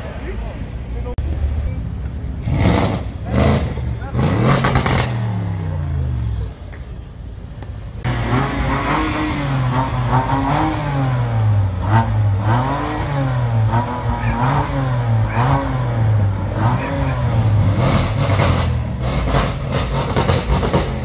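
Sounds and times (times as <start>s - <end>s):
car engine revving: 2.4s - 6.4s, 8.0s - 21.0s.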